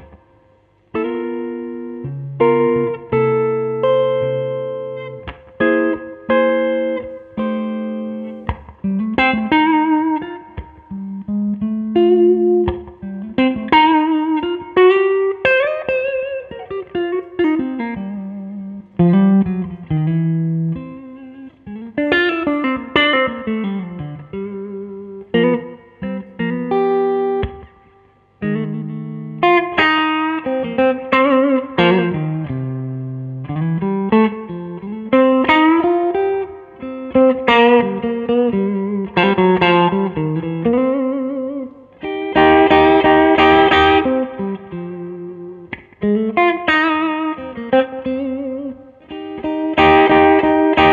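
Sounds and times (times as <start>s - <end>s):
electric blues guitar lead: 0.0s - 50.9s.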